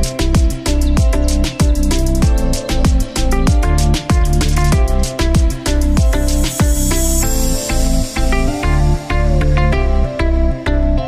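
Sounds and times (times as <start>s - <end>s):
beat-driven background music: 0.0s - 11.0s.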